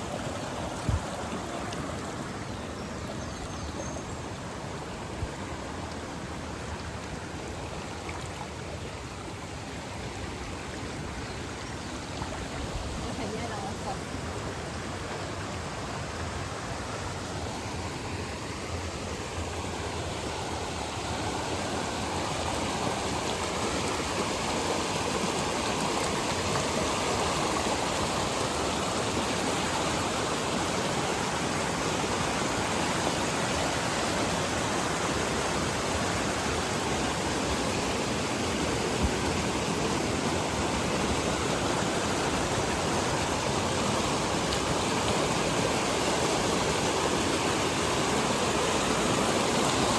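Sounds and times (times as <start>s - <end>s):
waterfall rushing: 0.0s - 3.4s, 4.0s - 49.9s.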